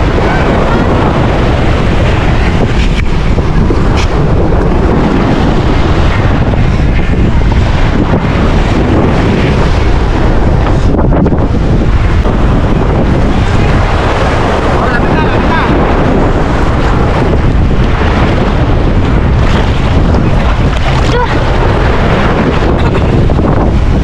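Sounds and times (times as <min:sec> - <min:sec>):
sea surf: 0:00.0 - 0:24.0
wind buffeting microphone: 0:00.0 - 0:24.0.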